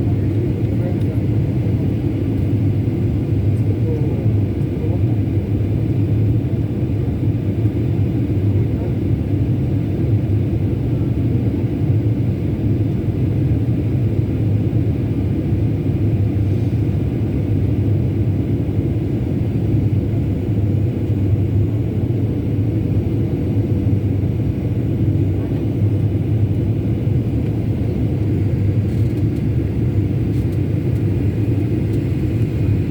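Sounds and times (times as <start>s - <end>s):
aircraft cabin rumble: 0.0s - 32.9s.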